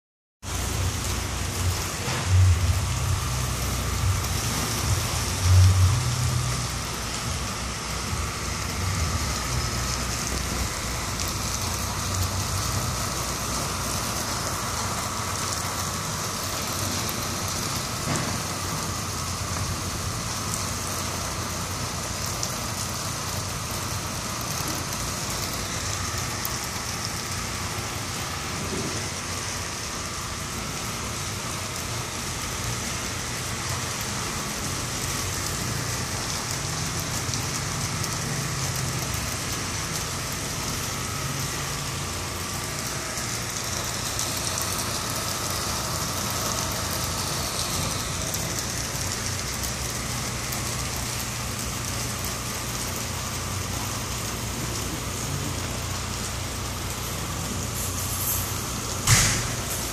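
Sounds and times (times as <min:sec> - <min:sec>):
cars passing on wet road: 0:00.4 - 0:59.9
heavy rain pouring: 0:00.4 - 0:59.9.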